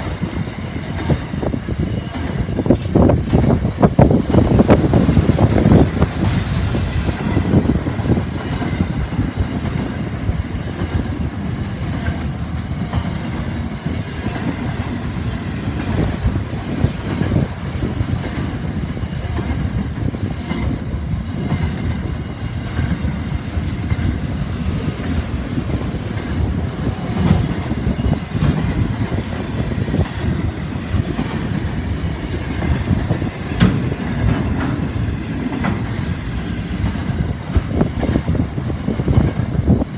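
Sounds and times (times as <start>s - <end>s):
freight train rumbling past: 0.0s - 39.9s
wheels clicking over rail joints: 0.0s - 39.9s.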